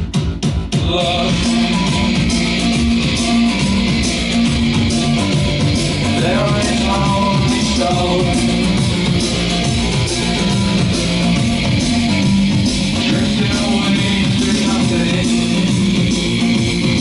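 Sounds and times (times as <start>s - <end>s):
guitar rock music: 0.8s - 17.0s.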